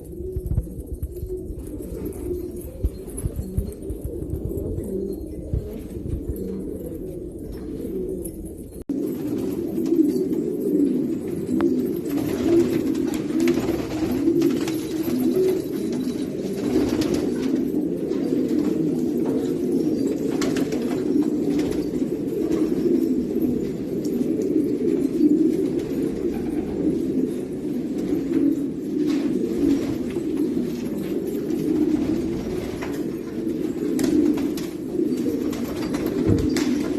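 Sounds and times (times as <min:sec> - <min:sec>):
pigeons cooing: 0:00.0 - 0:36.9.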